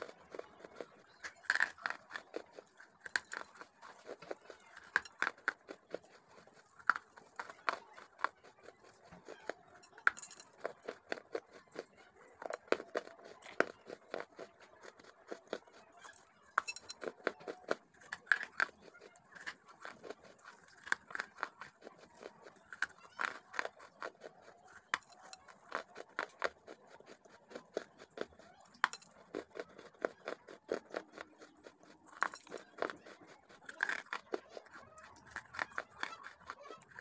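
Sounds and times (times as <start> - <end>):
crunching clay chunks: 0.0 - 37.0.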